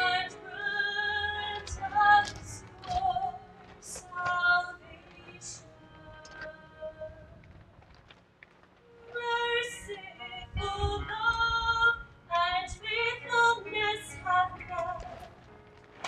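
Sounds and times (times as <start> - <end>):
woman singing: 0.0 - 7.4, 9.1 - 15.3
electric keyboard accompaniment: 0.0 - 16.0.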